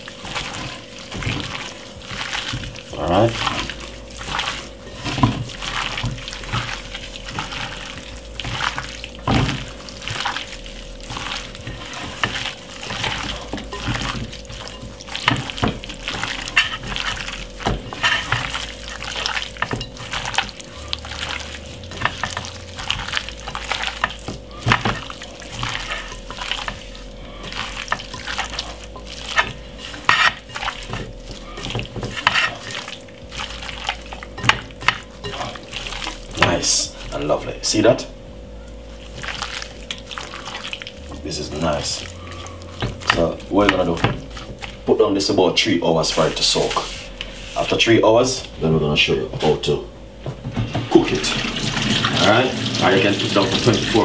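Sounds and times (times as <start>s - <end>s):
wet stirring of chicken: 0.0s - 48.5s, 50.7s - 54.0s
faint steady hum: 0.0s - 54.0s.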